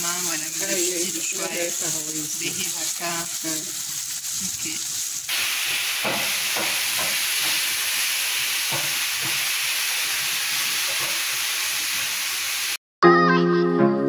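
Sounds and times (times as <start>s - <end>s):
food sizzling in a pan: 0.0s - 12.8s.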